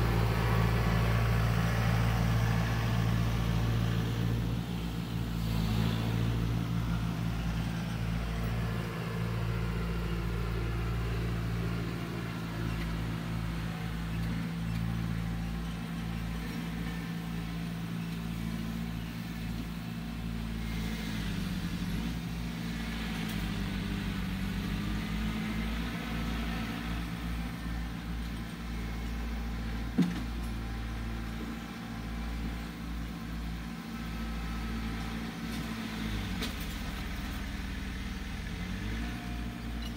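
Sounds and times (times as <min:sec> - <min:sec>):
earth-moving machine engine: 0:00.0 - 0:39.9.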